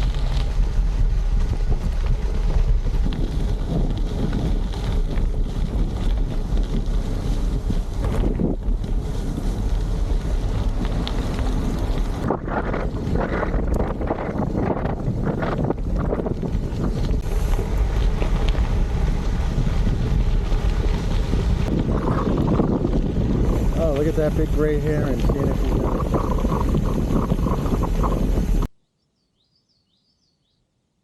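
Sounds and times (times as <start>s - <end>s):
wind buffeting microphone: 0.0s - 28.7s.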